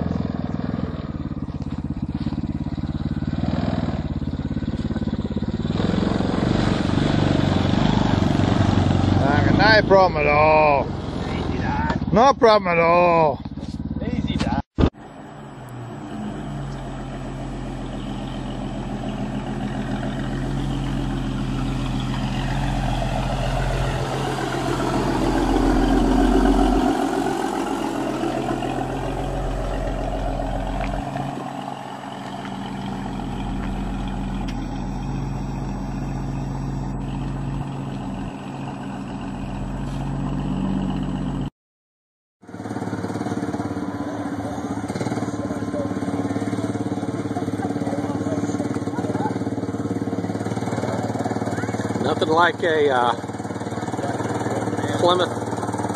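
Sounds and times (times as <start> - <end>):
miniature truck engine passing: 0.0 - 13.4, 15.1 - 41.5, 42.4 - 55.9
go-kart engine running: 0.0 - 14.5, 15.1 - 41.4, 42.4 - 55.9.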